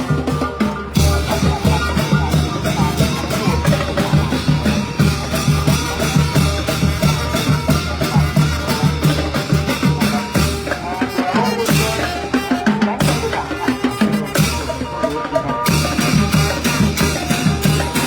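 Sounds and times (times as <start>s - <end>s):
bass drum and percussion beat: 0.0s - 18.0s
brass band playing lively tune: 0.0s - 18.0s.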